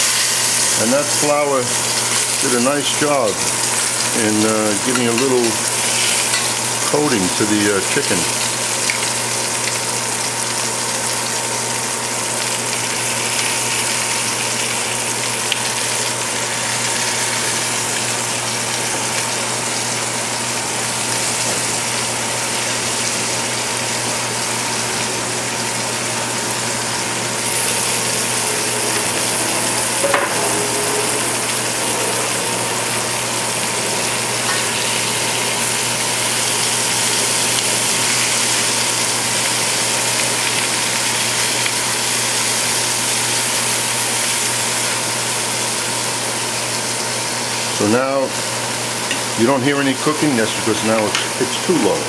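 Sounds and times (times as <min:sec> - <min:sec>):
chicken frying in pan: 0:00.0 - 0:52.0
range hood fan humming: 0:00.0 - 0:52.0.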